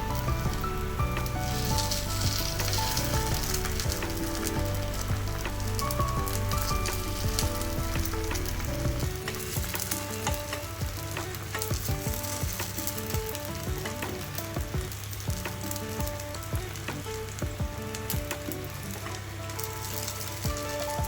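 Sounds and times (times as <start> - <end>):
batter sizzling in oil: 0.4 - 21.0.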